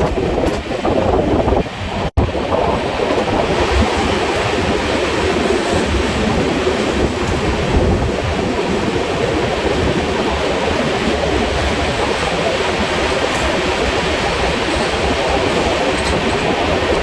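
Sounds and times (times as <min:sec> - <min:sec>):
rushing wind: 0:00.0 - 0:17.0
train wheels rumbling on rail: 0:00.0 - 0:17.0.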